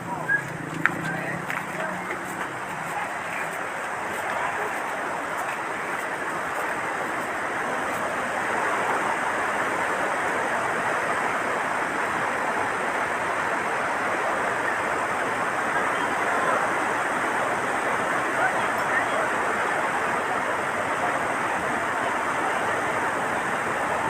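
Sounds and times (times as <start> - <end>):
floodwater rushing roar: 0.0 - 24.0.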